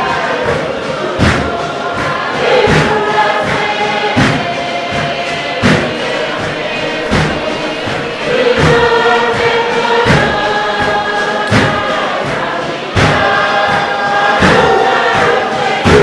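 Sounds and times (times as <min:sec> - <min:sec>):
group singing in chorus: 0:00.0 - 0:16.0
hand-struck drum beats: 0:00.0 - 0:16.0.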